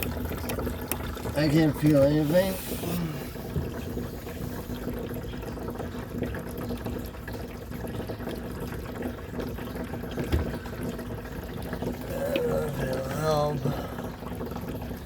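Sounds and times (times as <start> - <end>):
water running from a hose: 0.0 - 15.0.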